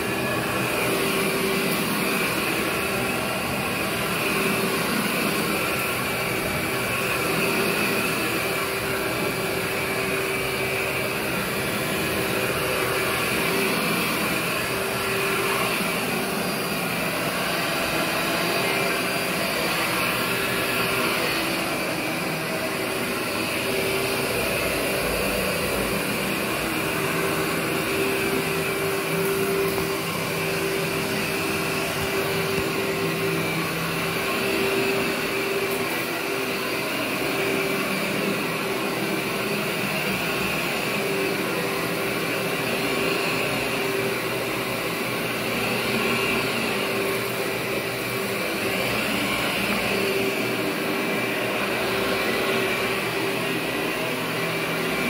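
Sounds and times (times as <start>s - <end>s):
vacuum cleaner on carpet: 0.0s - 55.0s.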